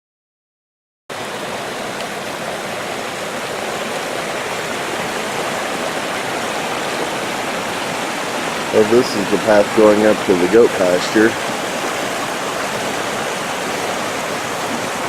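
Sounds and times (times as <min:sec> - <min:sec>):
creek rushing: 0:01.1 - 0:15.0.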